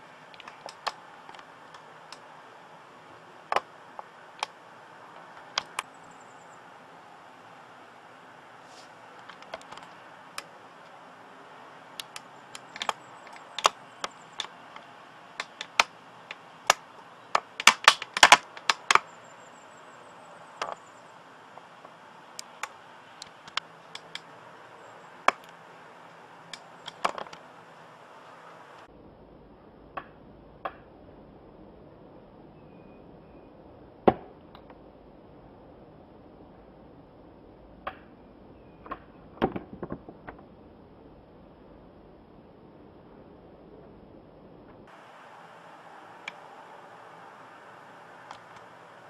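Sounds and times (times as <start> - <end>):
steady hiss: 0.0 - 38.6, 39.2 - 49.0
faint low hum: 0.0 - 49.0.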